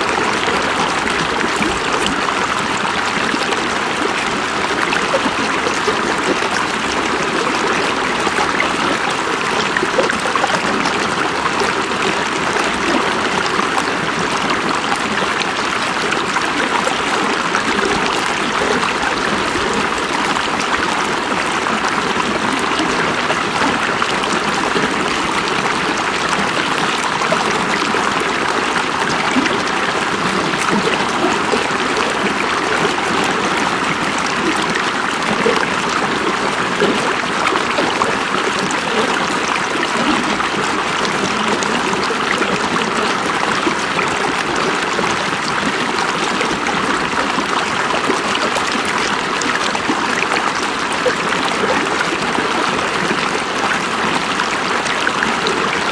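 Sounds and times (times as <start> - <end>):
river water burbling over stones: 0.0 - 55.9.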